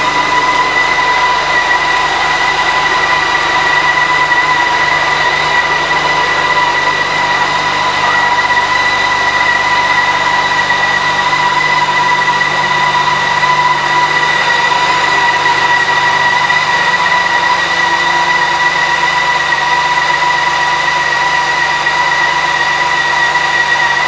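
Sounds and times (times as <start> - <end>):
constant high whine: 0.0 - 24.0.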